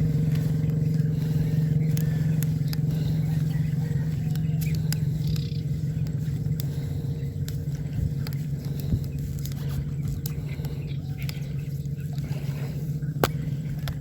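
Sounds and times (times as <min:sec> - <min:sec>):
small engine humming: 0:00.0 - 0:14.0
light clicks: 0:00.3 - 0:14.0.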